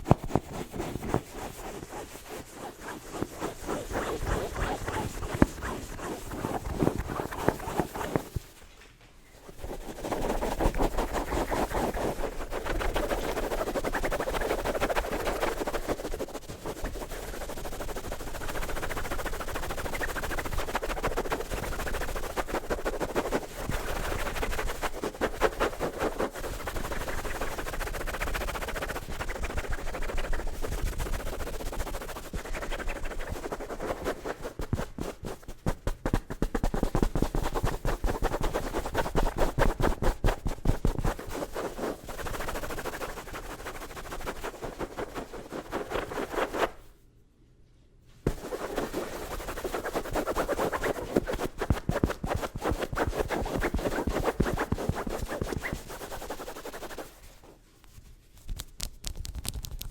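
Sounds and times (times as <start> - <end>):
scratching and tapping on object: 0.0 - 46.8, 48.3 - 57.1, 57.8 - 59.9.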